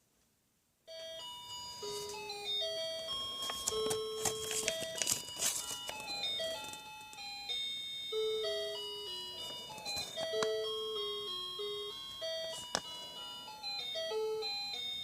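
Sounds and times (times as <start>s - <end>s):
chiming melody: 0.9s - 15.0s.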